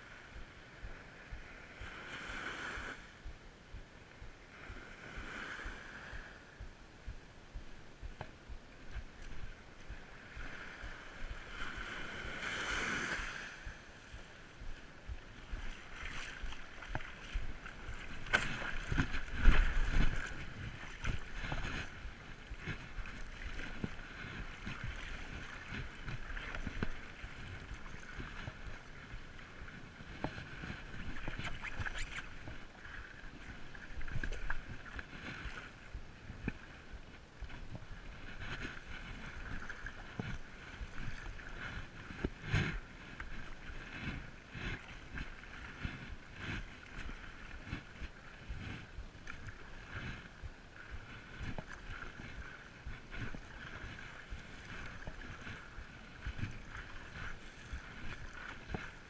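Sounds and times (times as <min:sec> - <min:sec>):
water splashing around paddle: 0:00.0 - 0:59.0.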